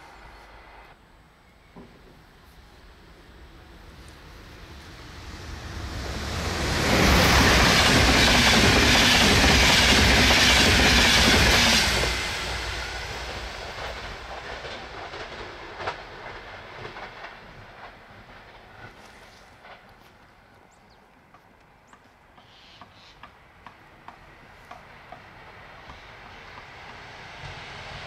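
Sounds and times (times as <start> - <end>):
passenger train passing: 0.0 - 28.0.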